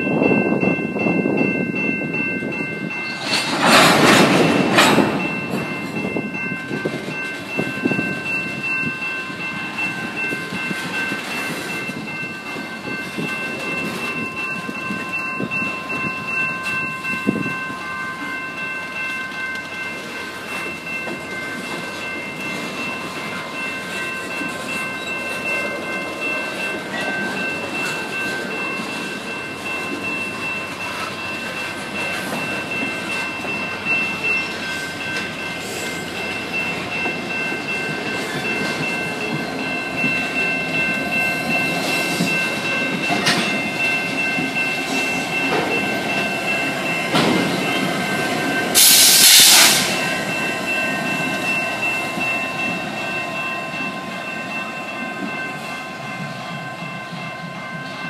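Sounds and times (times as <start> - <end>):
diesel locomotive passing: 0.0 - 58.0
freight train rolling past: 0.0 - 58.0
steady high-pitched tones: 4.5 - 58.0.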